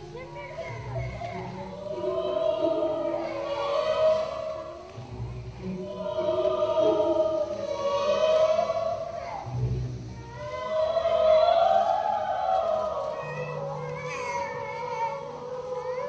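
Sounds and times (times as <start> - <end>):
choir singing long held notes: 0.0 - 16.0.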